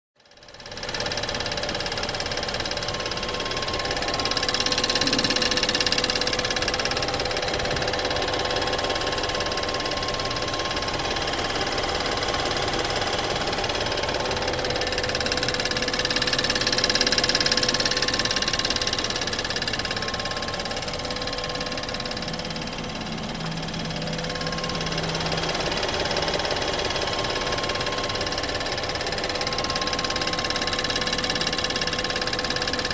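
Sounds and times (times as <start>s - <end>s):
car engine idling: 0.2s - 32.9s
constant mechanical noise: 0.2s - 32.9s.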